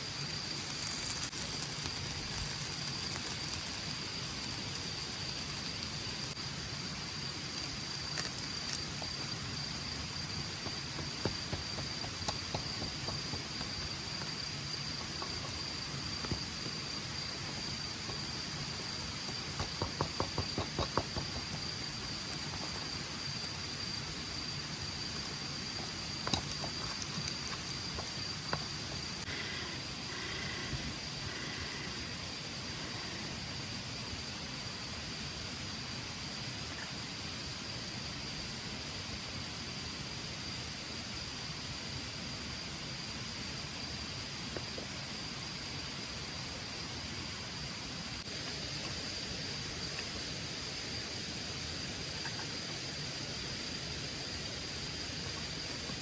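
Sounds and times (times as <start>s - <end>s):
even hiss: 0.0s - 56.0s
high insect trill: 0.0s - 56.0s.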